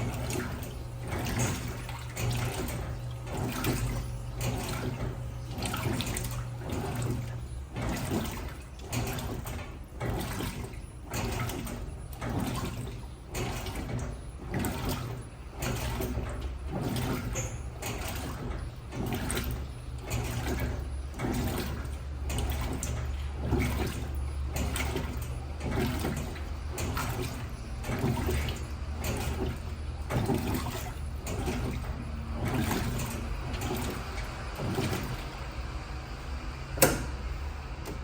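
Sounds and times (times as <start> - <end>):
low motor hum: 0.0 - 38.0
water sloshing in washing machine: 0.0 - 38.0.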